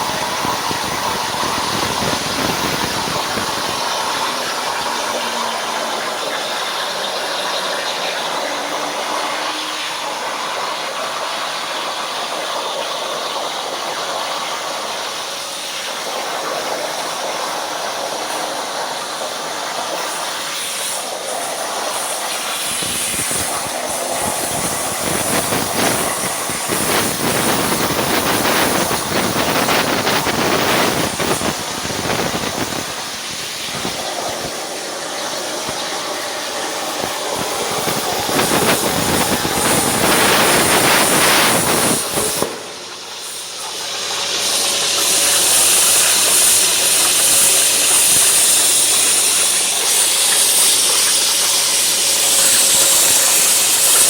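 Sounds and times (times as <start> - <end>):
plasma torch cutting steel: 0.0 - 54.0.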